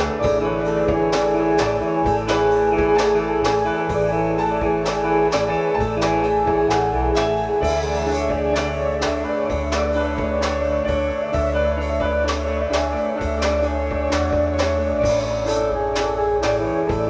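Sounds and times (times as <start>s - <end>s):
drum kit steady beat: 0.0s - 17.0s.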